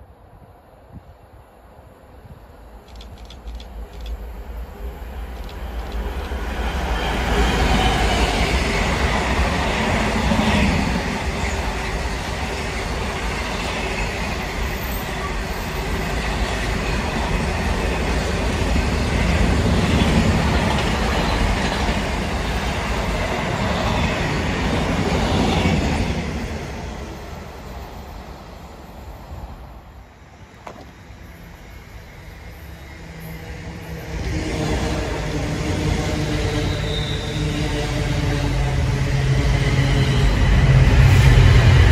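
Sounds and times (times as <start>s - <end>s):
electric train approaching: 0.9s - 41.9s
diesel locomotive engine: 1.3s - 41.9s.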